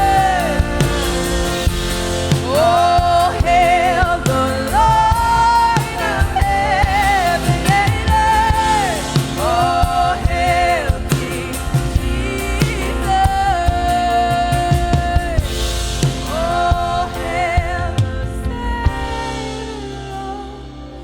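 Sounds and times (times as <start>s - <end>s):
band with drums and bass: 0.0s - 21.0s.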